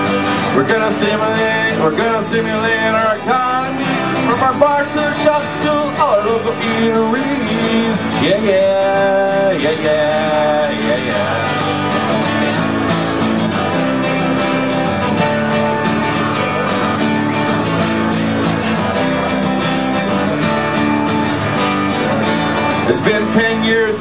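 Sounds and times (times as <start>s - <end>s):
country music with acoustic guitar: 0.0s - 24.0s.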